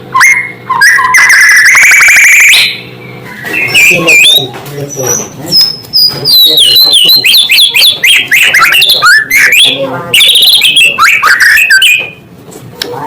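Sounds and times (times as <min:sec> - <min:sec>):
songbird whistling and trilling: 0:00.2 - 0:12.2.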